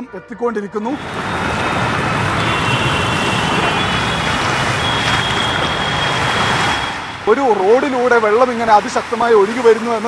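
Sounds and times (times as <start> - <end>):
floodwater rushing: 1.0 - 10.0.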